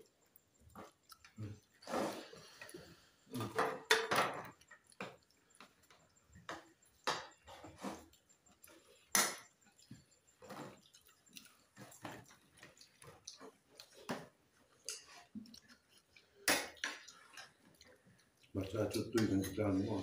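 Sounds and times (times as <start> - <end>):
chewing: 0.0 - 3.6, 4.4 - 20.0.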